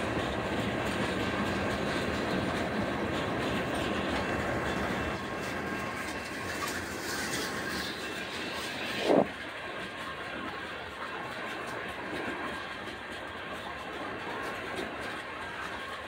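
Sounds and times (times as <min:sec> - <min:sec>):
train wheels clacking on rails: 0:00.0 - 0:16.0.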